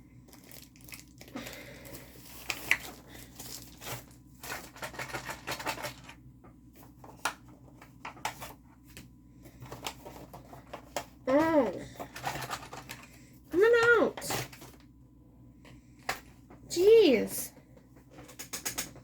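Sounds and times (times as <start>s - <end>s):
plastic packaging clicks and rustles: 0.2s - 14.9s, 17.8s - 19.0s.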